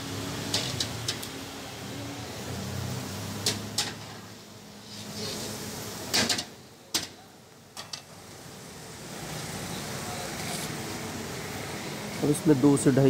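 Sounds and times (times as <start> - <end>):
broth boiling: 0.0 - 13.0.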